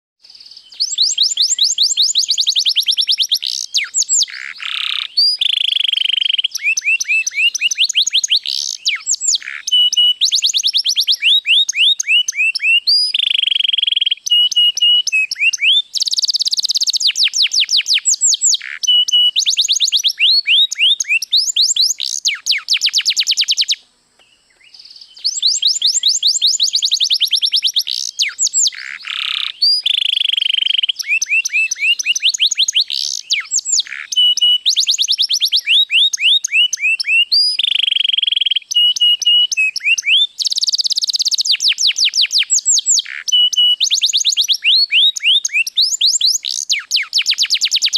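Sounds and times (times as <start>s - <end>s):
canary singing trills: 0.2s - 47.9s.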